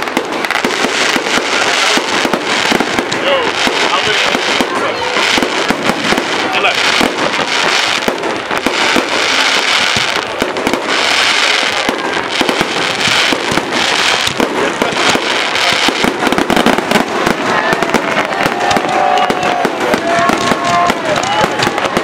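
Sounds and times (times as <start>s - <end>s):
crackling fireworks stars: 0.0s - 22.0s
fireworks booms and cracks: 0.0s - 22.0s.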